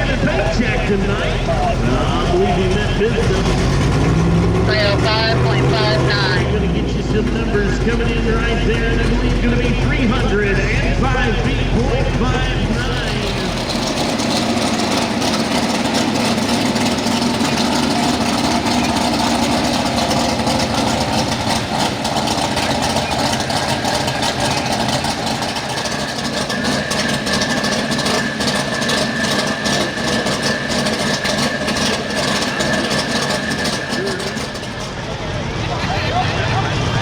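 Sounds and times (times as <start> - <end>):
loud truck engine running: 0.0 - 37.0.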